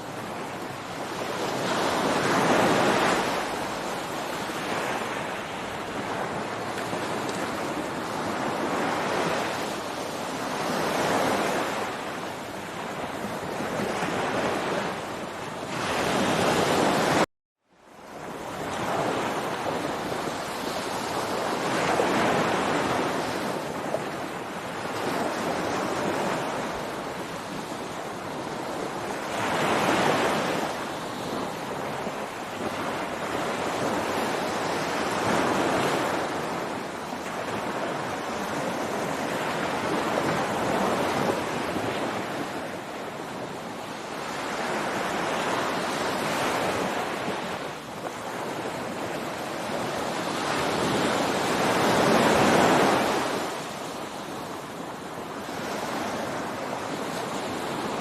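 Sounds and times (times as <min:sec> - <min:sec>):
ocean waves washing onto beach: 0:00.0 - 0:58.0.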